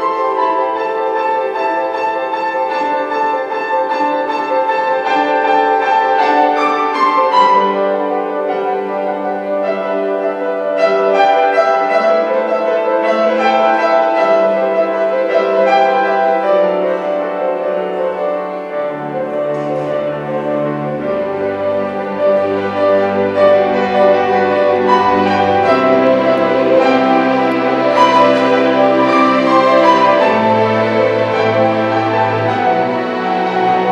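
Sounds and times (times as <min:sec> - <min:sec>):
piano with string orchestra: 0:00.0 - 0:33.9.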